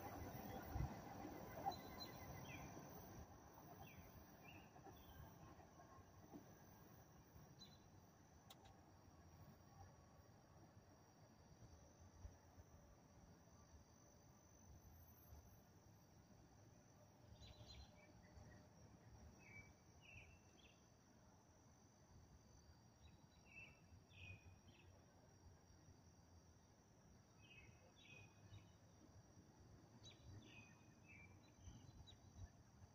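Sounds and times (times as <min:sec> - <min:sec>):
faint high insect trill: 0:00.0 - 0:32.9.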